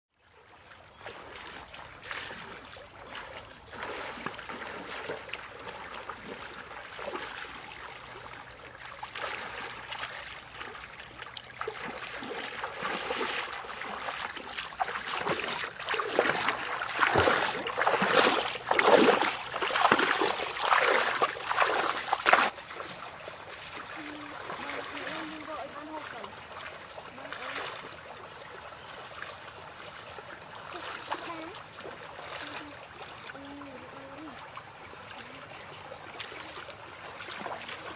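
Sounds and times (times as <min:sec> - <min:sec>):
legs wading through water: 0:00.2 - 0:37.9.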